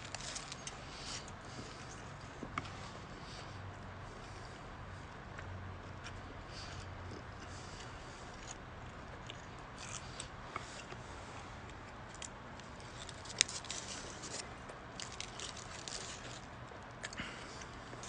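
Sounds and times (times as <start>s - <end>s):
person chewing sandwich: 0.0s - 18.0s.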